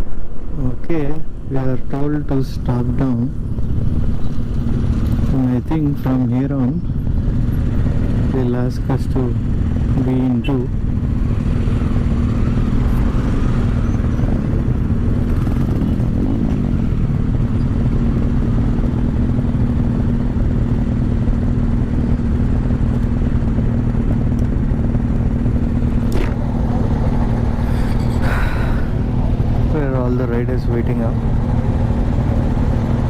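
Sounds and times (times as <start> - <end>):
motorcycle engine revving: 2.5 - 33.0
motorcycle engine idling: 2.7 - 33.0.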